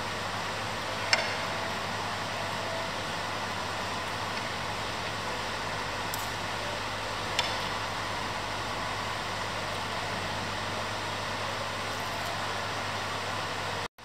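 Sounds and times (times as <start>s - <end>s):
low room hum: 0.0s - 13.9s.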